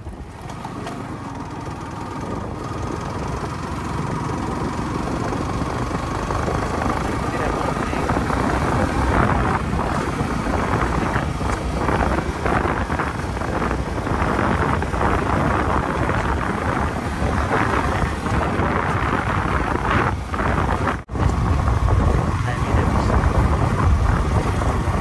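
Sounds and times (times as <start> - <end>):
road and vehicle noise: 0.0 - 25.0
wind buffeting microphone: 0.0 - 25.0.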